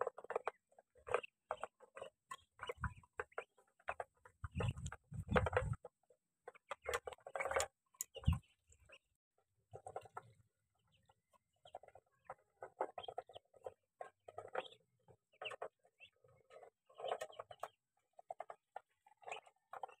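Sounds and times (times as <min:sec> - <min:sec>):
poultry clucking: 0:00.0 - 0:05.8, 0:09.7 - 0:20.0.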